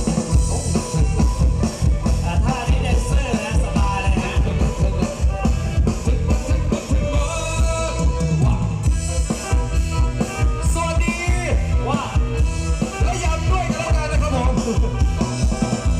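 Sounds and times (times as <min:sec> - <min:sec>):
loud live band music: 0:00.0 - 0:15.9.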